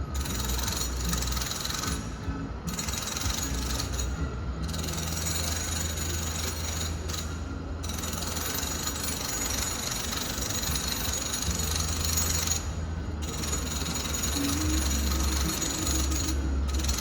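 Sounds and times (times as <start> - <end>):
distant power tool grinding: 0.0 - 17.0
low machine hum: 0.0 - 17.0.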